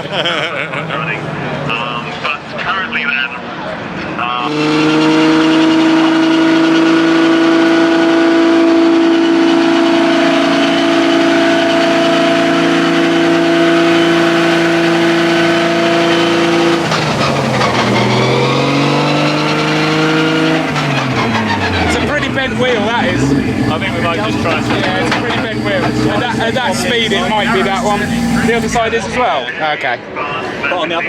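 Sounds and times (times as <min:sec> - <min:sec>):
car engine revving: 0:03.8 - 0:29.4.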